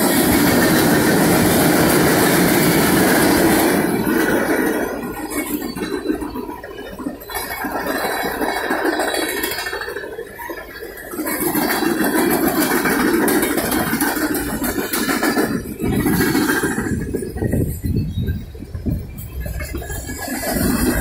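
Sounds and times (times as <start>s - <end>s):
freight cars rattling and clinking: 0.0s - 21.0s
steel wheels running on rails: 0.0s - 21.0s.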